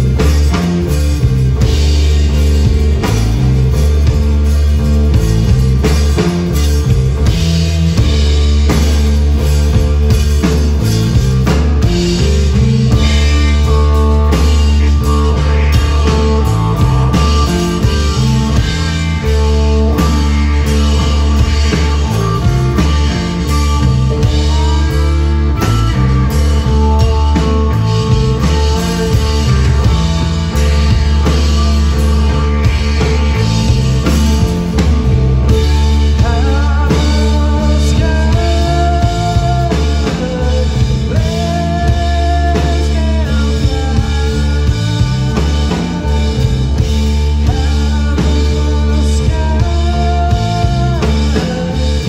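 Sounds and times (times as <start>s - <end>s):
heavy bass: 0.0s - 52.0s
held guitar notes: 0.0s - 52.0s
steady drum beat: 0.0s - 52.0s.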